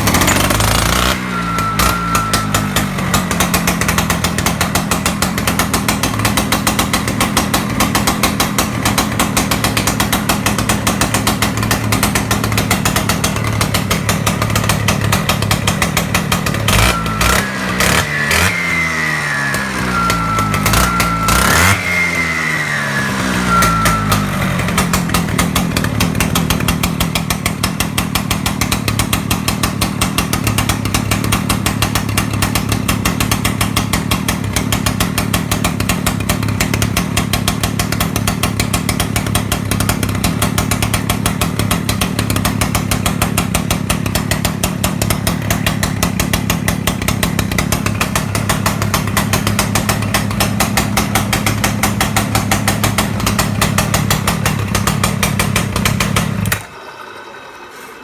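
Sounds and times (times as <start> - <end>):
concrete saw engine running: 0.0 - 58.0.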